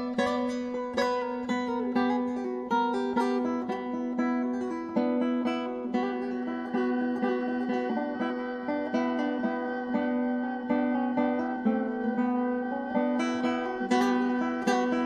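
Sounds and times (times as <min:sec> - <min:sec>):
plucked strings melody: 0:00.0 - 0:15.0.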